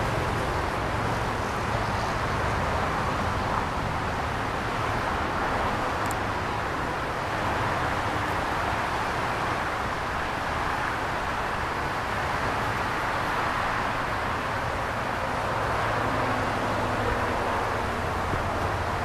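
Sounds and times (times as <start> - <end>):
distant road traffic roar: 0.0 - 19.0.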